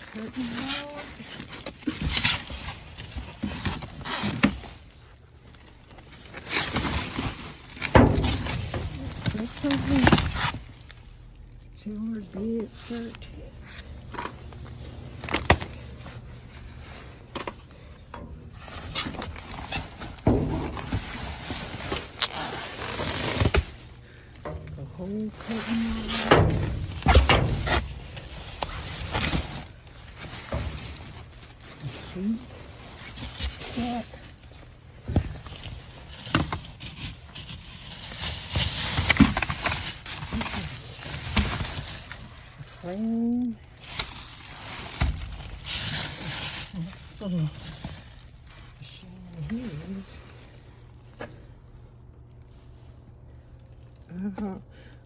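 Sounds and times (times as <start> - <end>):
plastic rustling and rubbing: 0.0 - 54.1
plastic wrapping crinkling: 0.0 - 54.3.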